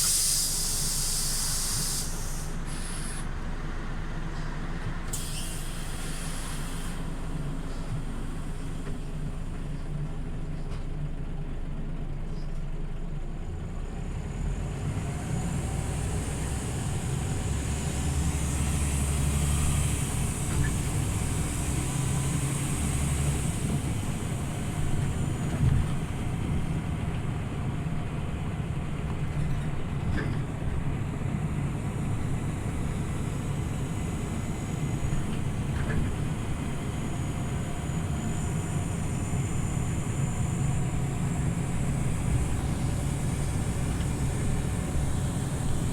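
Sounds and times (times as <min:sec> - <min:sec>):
bus engine rumble: 0:00.0 - 0:45.9.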